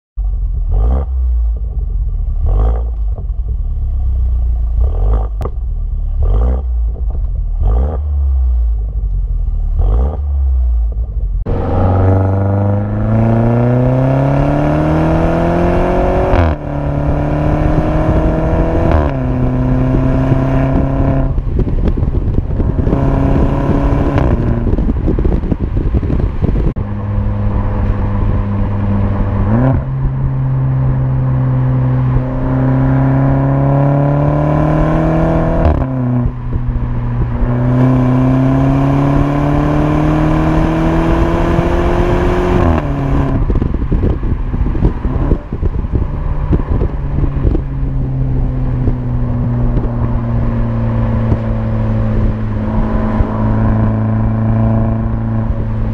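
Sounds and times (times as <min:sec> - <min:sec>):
car engine idling and revving: 0:00.2 - 0:55.9.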